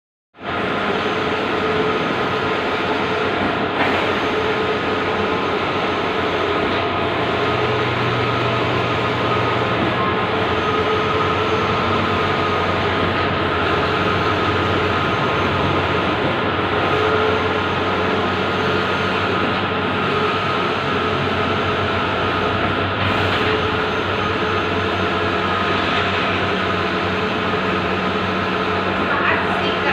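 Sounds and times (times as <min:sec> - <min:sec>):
large printer running: 0:00.4 - 0:29.9.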